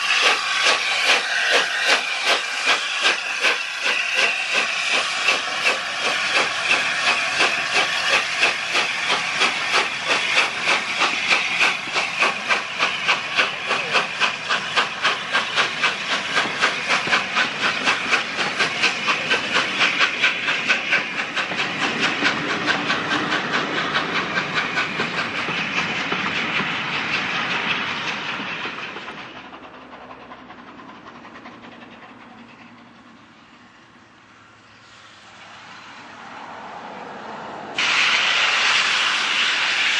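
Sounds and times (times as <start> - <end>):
steam hiss: 0.0 - 32.7, 33.4 - 36.8, 37.8 - 39.9
steam locomotive exhaust beat: 0.0 - 37.0, 37.8 - 39.9
distant steam train approaching: 0.0 - 39.9.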